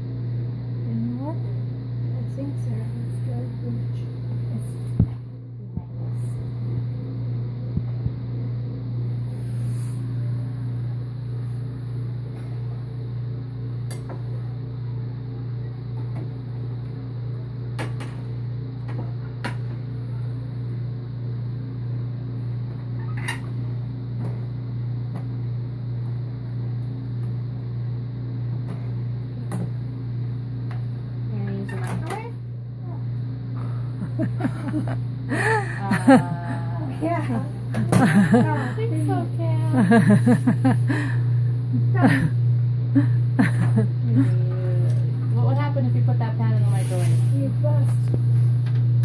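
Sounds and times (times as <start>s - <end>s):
microwave oven humming: 0.0s - 49.0s.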